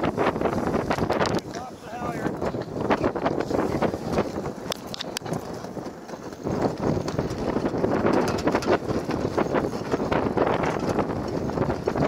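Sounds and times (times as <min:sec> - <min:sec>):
rushing wind: 0:00.0 - 0:12.0
water noise: 0:00.0 - 0:12.0
rapid knocks and crackles: 0:00.3 - 0:12.0.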